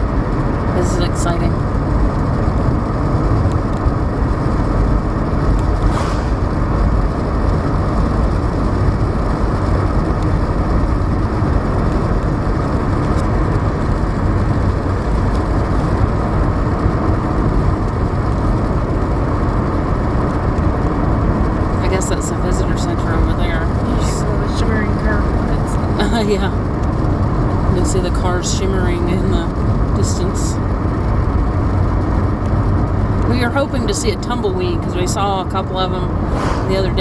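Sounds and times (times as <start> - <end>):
car cabin road noise: 0.0 - 37.0.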